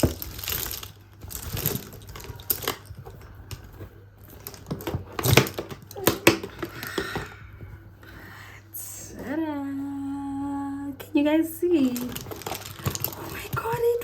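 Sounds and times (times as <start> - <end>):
bag rustling: 0.0 - 9.4, 11.6 - 14.0.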